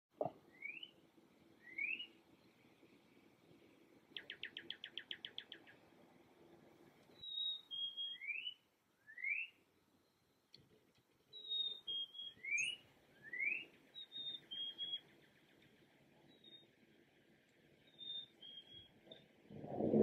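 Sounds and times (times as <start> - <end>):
songbirds singing: 0.2 - 20.0.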